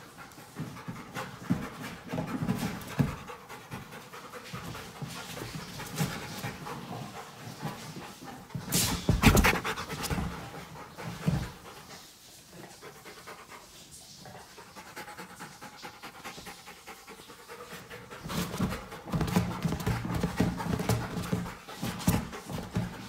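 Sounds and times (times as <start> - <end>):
puppy panting: 0.0 - 23.0.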